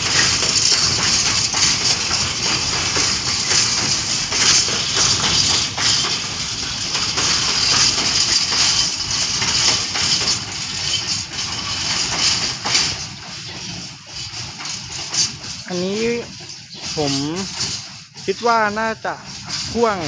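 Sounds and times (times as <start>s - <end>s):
freight wagons rattling on rails: 0.0s - 20.0s.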